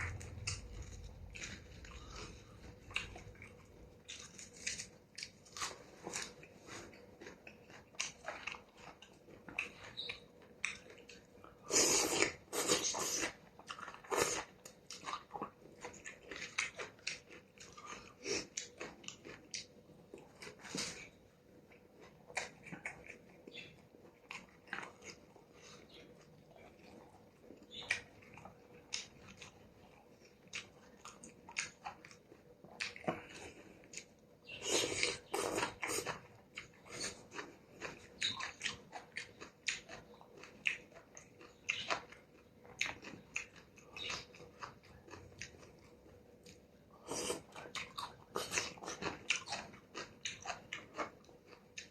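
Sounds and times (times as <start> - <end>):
person chewing with wet mouth sounds: 0.0 - 51.9.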